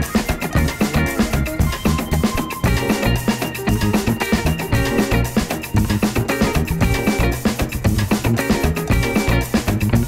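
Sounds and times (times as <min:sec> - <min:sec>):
bass: 0:00.0 - 0:10.0
drum kit quick beat: 0:00.0 - 0:10.0.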